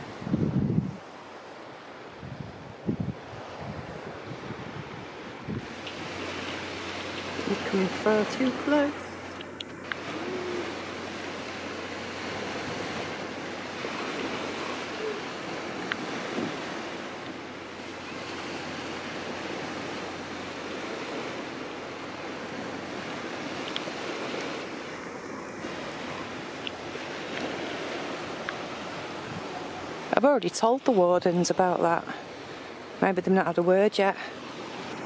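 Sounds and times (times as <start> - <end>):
waves washing onto beach: 0.0 - 35.0
wind: 0.0 - 35.0.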